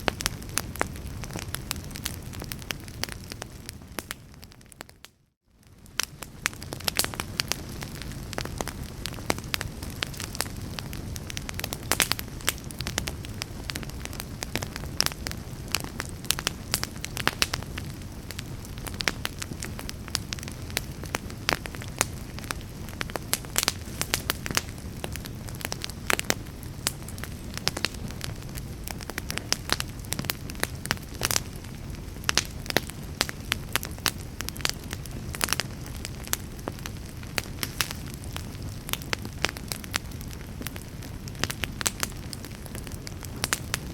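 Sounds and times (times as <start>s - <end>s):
fire crackling in fireplace: 0.0s - 43.9s.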